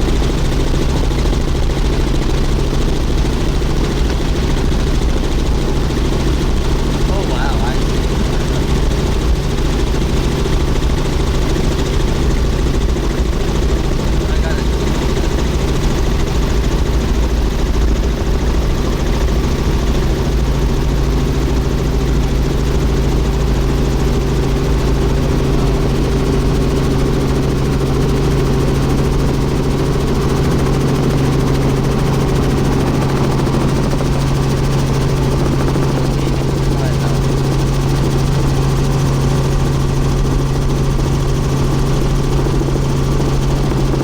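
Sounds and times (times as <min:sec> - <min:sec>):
helicopter cabin drone: 0:00.0 - 0:44.0.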